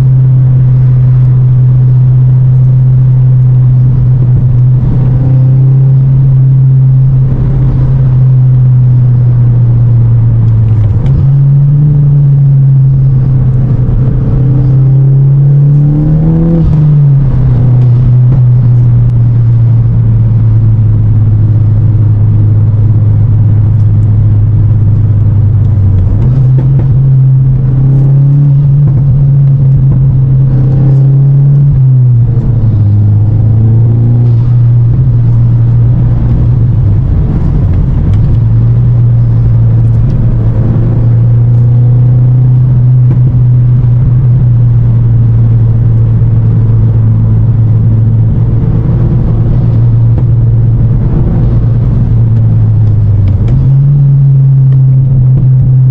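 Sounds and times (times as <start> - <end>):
car engine drone: 0.0 - 55.9
road rumble: 0.0 - 55.9.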